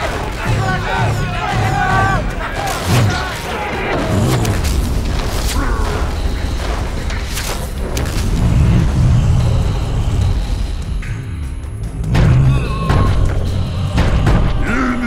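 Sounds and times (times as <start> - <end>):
dramatic background music: 0.0 - 15.0.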